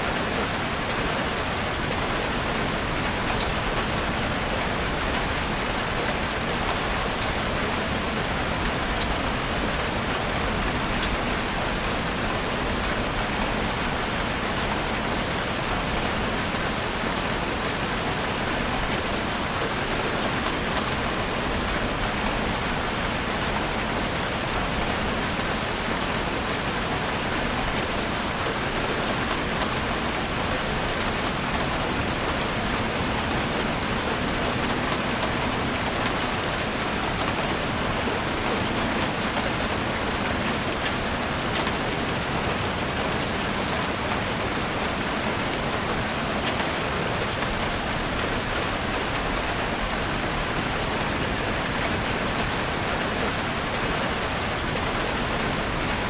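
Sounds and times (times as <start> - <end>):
heavy rain on roof: 0.0 - 56.0.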